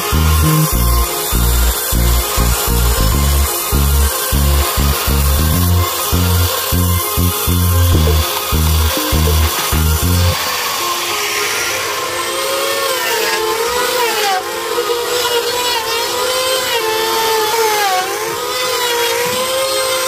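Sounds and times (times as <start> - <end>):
power tool cutting wood: 0.0 - 20.0.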